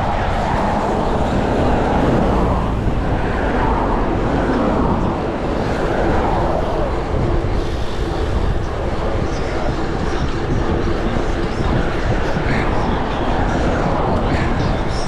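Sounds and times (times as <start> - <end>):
bicycle road noise: 0.0 - 15.0
wind on microphone: 0.0 - 15.0.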